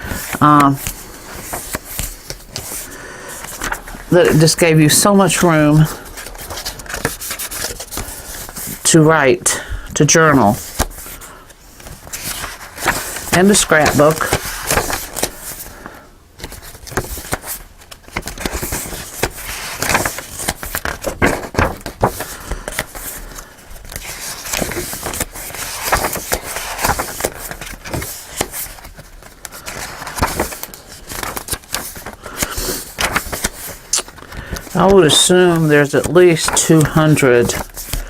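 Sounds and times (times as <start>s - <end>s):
journal pages rustling: 0.0s - 9.1s, 10.0s - 38.0s.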